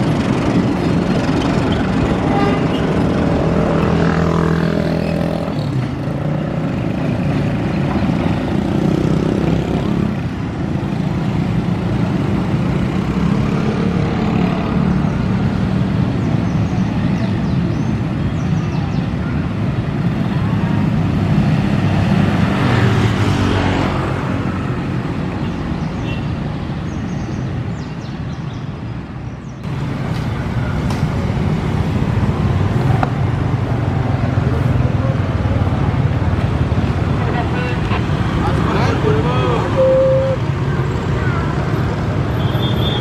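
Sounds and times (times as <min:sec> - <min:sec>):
motorbike engines: 0:00.0 - 0:43.0
street traffic: 0:00.0 - 0:43.0.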